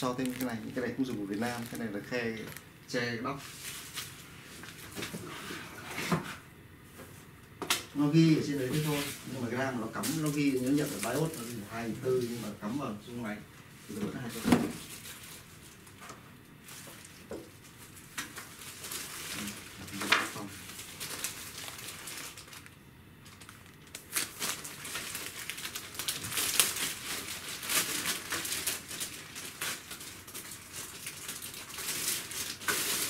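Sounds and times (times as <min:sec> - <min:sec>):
plastic packaging crinkling: 0:00.0 - 0:05.0, 0:08.4 - 0:13.2, 0:13.9 - 0:33.0.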